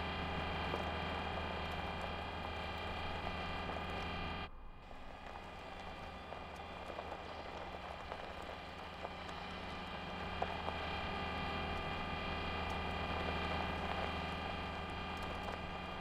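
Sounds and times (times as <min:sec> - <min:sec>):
machine hum with high whining: 0:00.0 - 0:16.0.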